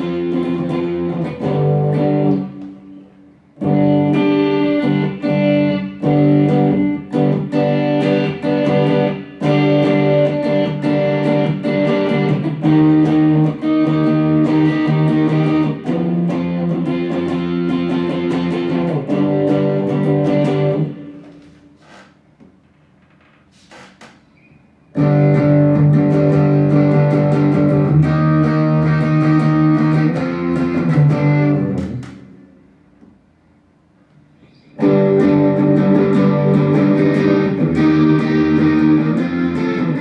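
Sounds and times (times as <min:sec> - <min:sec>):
electric guitar playing: 0:00.0 - 0:21.6, 0:25.0 - 0:32.7, 0:34.7 - 0:40.0.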